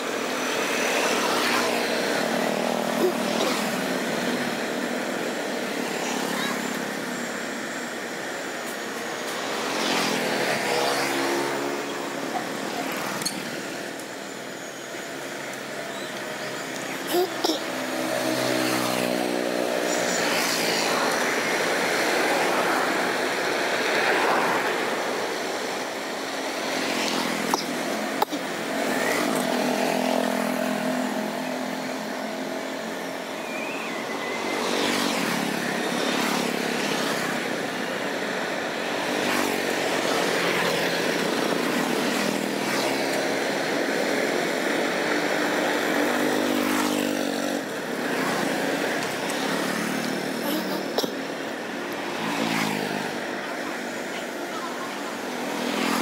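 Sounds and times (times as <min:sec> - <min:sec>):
motorbikes and cars passing: 0:00.0 - 0:56.0.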